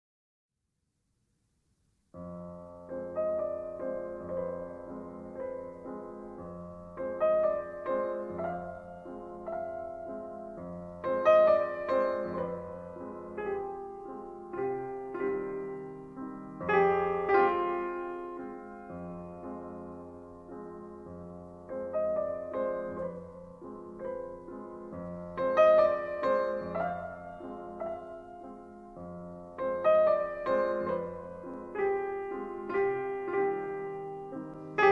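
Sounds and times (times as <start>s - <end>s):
piano-like keyboard chords: 2.2s - 34.9s.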